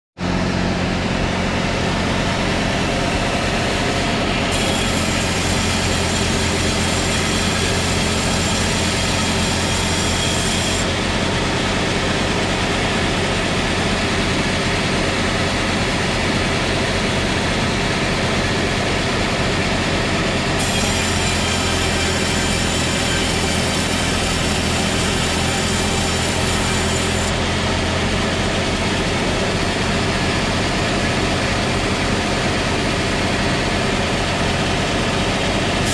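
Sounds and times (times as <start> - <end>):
saw engine drone: 0.2 - 35.9
saw blade rasping through log: 1.7 - 16.6, 17.4 - 35.9.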